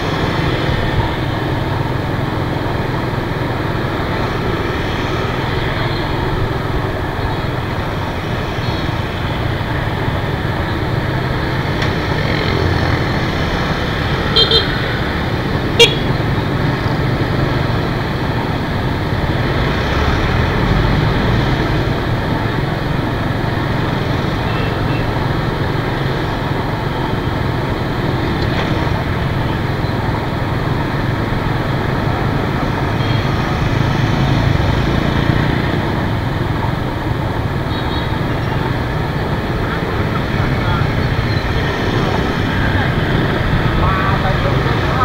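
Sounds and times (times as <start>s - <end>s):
motorbikes running: 0.0s - 45.0s
scooter engine and tyres: 0.0s - 45.0s.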